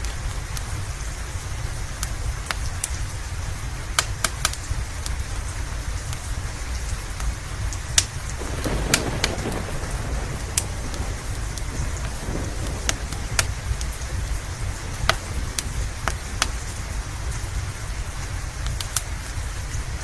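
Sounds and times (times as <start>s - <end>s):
fireplace popping and crackling: 0.0s - 20.0s
low continuous rumble: 0.0s - 20.0s
rain on a roof: 0.0s - 20.0s.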